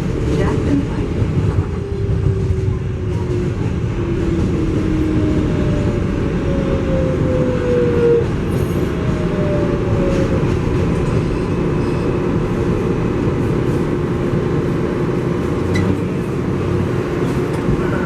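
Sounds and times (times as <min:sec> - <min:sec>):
train car rumble: 0:00.0 - 0:18.0.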